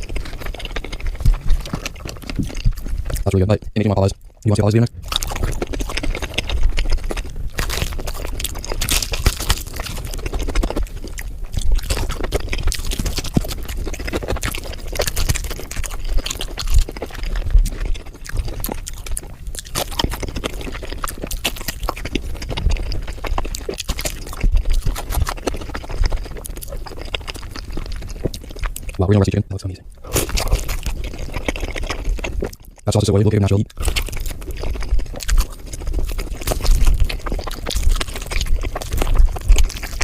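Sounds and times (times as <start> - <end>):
crunchy chewing: 0.0 - 40.0.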